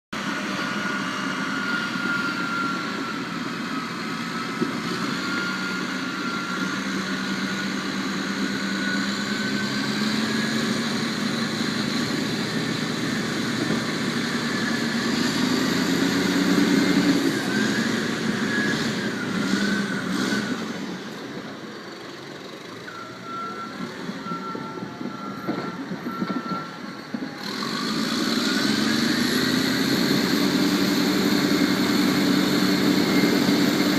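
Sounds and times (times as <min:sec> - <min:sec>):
heavy machinery engine running: 0:00.1 - 0:33.9.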